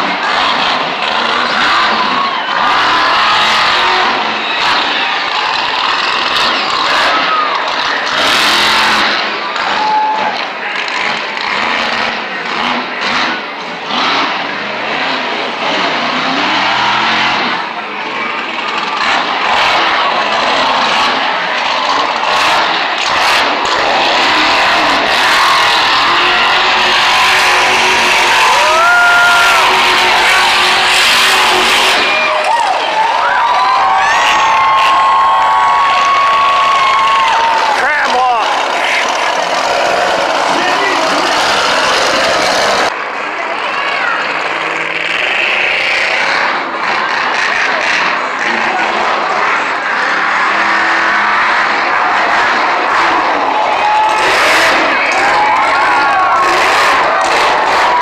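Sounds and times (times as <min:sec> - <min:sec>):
truck engine roaring: 0:00.0 - 0:58.0.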